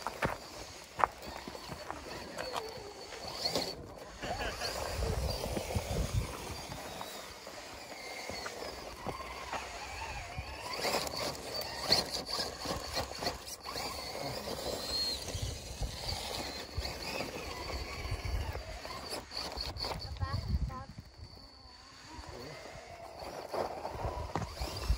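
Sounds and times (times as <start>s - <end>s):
tyres scraping on stone: 0.0s - 21.3s
electric motor whine: 0.0s - 24.9s.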